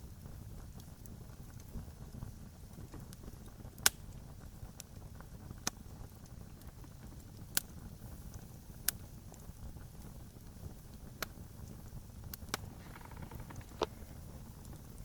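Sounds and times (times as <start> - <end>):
campfire popping: 0.0 - 15.0
faint fire ticks: 0.0 - 15.0
low rumble of fire: 0.0 - 15.0.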